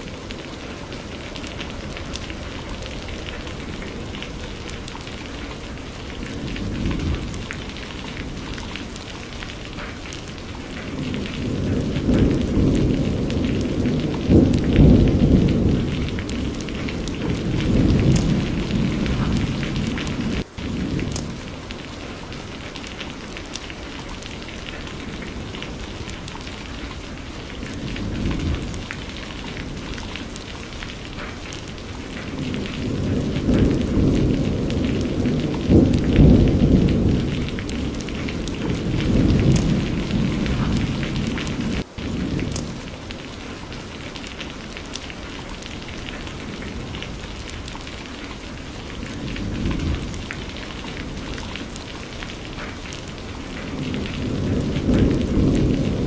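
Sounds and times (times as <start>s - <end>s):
steady rain: 0.0s - 56.0s
thunder rumbling: 0.0s - 56.0s.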